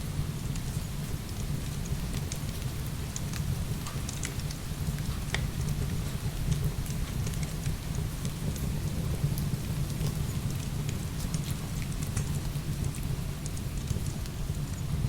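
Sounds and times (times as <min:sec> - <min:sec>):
wood fire crackling and popping: 0:01.6 - 0:15.0.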